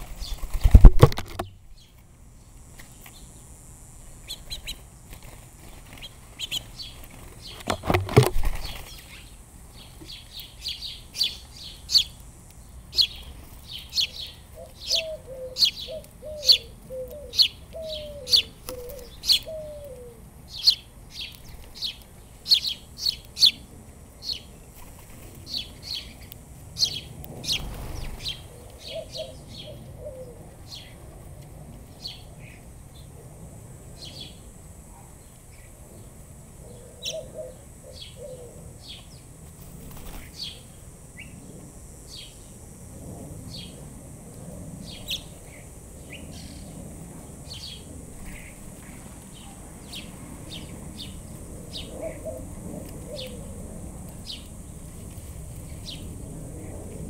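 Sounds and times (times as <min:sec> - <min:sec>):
small birds chirping: 0:00.0 - 0:31.2, 0:31.8 - 0:42.7, 0:44.8 - 0:57.0.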